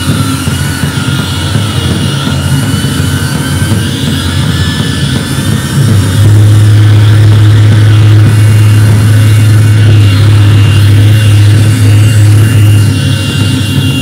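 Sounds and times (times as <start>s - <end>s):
deep steady hum: 0.0s - 14.0s
droning electronic noise: 0.0s - 14.0s.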